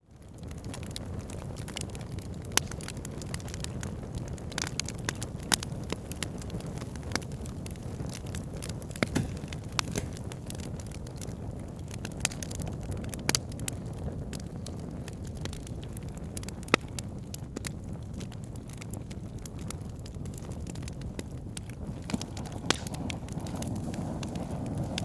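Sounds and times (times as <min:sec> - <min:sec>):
fire crackles and pops: 0:00.0 - 0:25.0
fire flames rumbling: 0:00.0 - 0:25.0.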